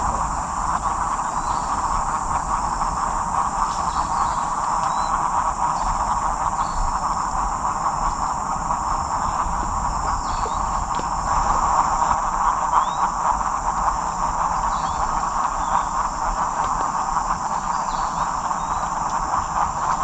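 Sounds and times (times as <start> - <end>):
high unbroken insect whine: 0.0 - 20.0
insects and frogs chorus: 0.0 - 20.0.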